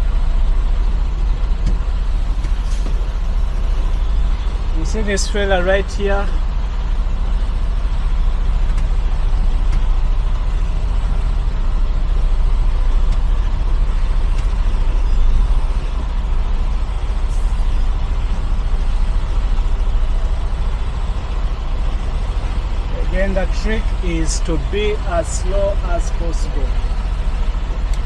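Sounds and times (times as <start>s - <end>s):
diesel truck engine idling low: 0.0s - 28.0s.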